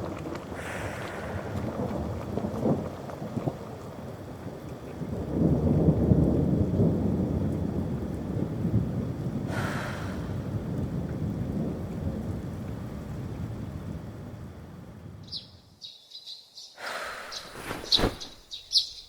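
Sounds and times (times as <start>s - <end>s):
steady rain: 0.0s - 15.3s
low rumble of thunder: 0.0s - 15.6s.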